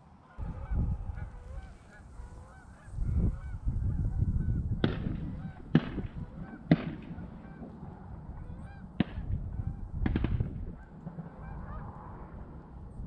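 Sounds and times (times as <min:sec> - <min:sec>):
geese honking: 0:00.0 - 0:13.0
wind rumble on microphone: 0:00.4 - 0:13.0.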